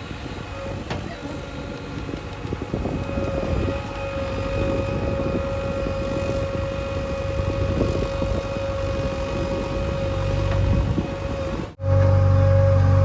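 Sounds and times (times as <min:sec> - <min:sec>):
diesel engine rumble: 0:00.0 - 0:13.0
engine whine: 0:00.0 - 0:13.0.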